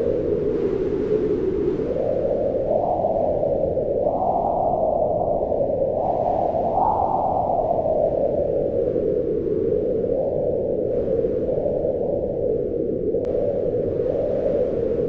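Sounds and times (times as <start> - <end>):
howling wind: 0.0 - 15.0.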